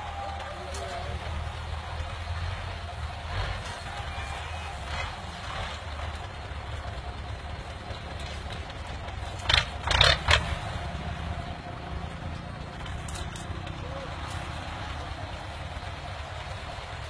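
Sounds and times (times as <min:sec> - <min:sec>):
loud rushes of noise: 0:00.0 - 0:17.0
tractor diesel engine rumble: 0:00.0 - 0:17.0.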